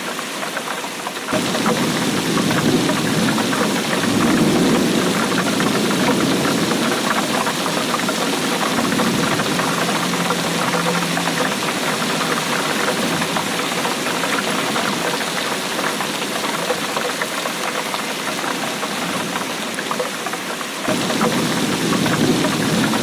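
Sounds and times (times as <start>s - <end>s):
heavy rainfall: 0.0s - 23.0s.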